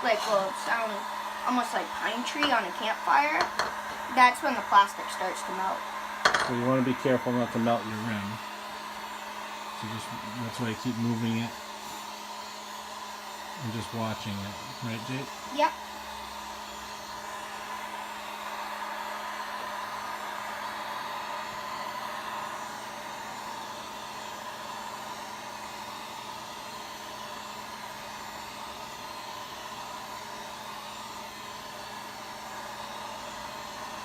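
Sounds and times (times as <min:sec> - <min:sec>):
heat gun blowing: 0:00.0 - 0:34.0.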